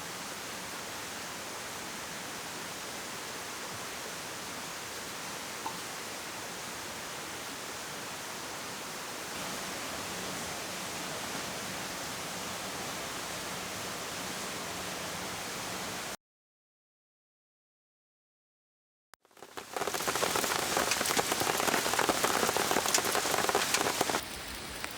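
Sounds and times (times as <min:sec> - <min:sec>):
steady rain falling: 0:00.0 - 0:16.2, 0:19.3 - 0:24.9.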